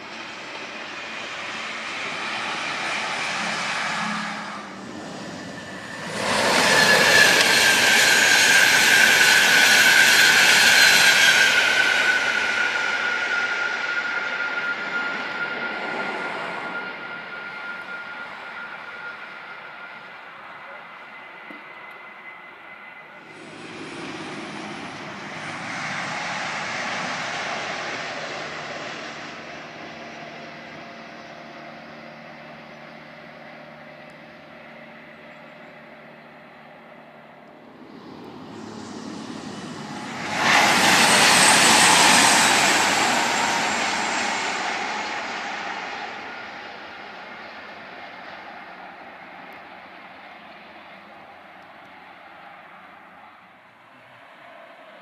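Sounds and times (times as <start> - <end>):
diesel train rushing past: 0.0 - 54.9
distant train rumble: 0.0 - 55.0.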